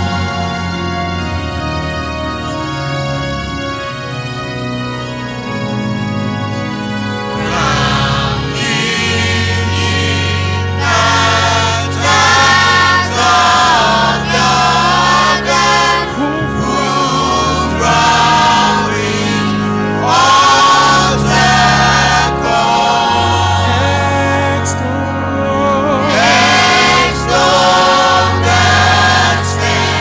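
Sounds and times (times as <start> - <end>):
choir singing gospel song: 0.0 - 1.6, 5.7 - 30.0
held bass notes: 0.0 - 30.0.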